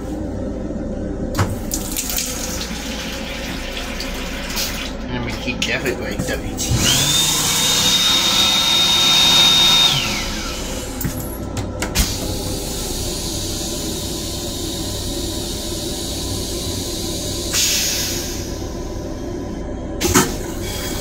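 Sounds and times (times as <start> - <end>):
steady rumble and hiss: 0.0 - 7.0, 10.2 - 21.0
flush mechanism whine: 0.0 - 21.0.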